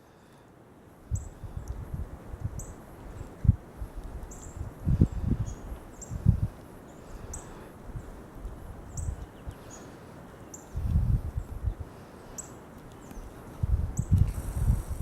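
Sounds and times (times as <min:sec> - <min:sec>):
small birds chirping: 0:01.1 - 0:01.9, 0:02.5 - 0:14.7.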